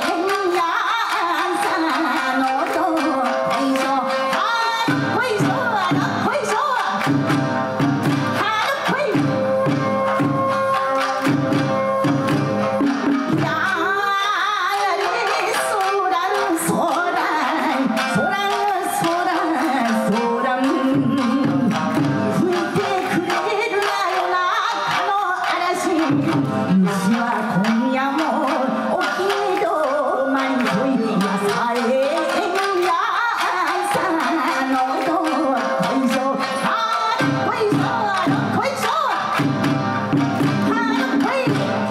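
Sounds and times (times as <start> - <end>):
plucked shamisen: 0.0 - 41.9
taiko drum beats: 0.0 - 41.9.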